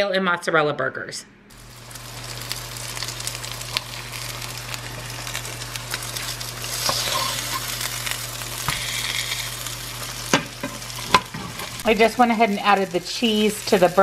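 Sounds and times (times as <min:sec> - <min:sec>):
patties sizzling in a pan: 0:01.5 - 0:14.0.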